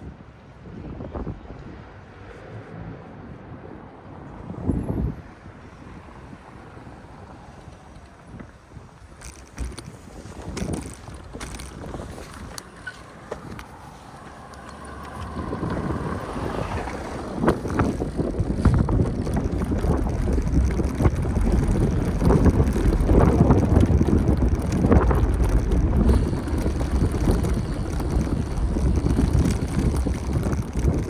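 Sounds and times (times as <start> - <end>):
wind buffeting microphone: 0.0 - 2.3, 3.1 - 31.0.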